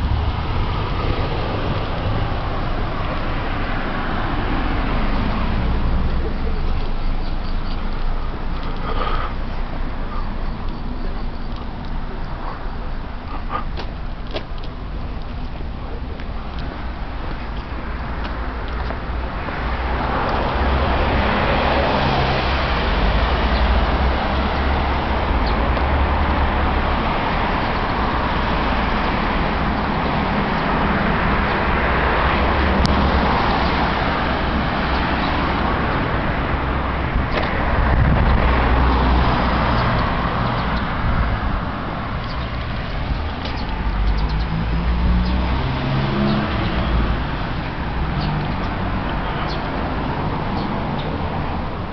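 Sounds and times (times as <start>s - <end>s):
cars passing: 0.0s - 51.9s
steady low traffic rumble: 0.0s - 51.9s.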